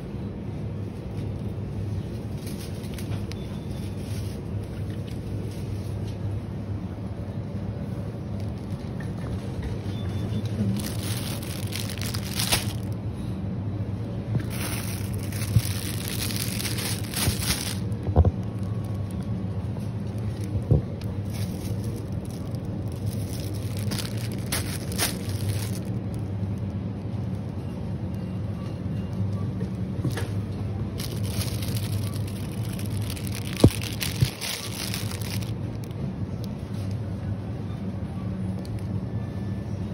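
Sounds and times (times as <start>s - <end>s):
steady low hum: 0.0s - 39.9s
crinkly rustles: 0.8s - 6.5s, 7.7s - 13.3s, 14.2s - 37.0s.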